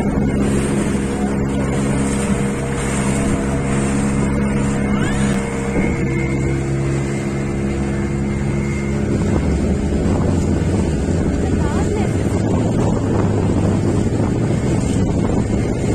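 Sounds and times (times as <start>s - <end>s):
motorboat engine droning: 0.0s - 15.9s
water rushing: 0.0s - 15.9s
wind: 0.0s - 15.9s.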